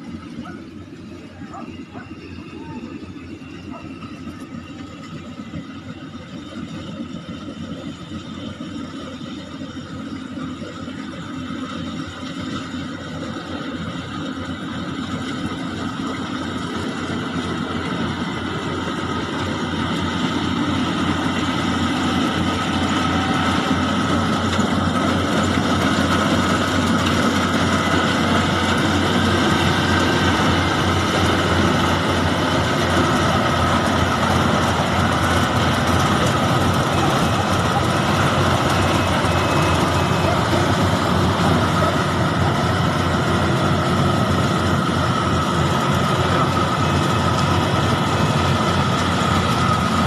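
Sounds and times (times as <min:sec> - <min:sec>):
heavy harvester engine running: 0:00.0 - 0:50.0.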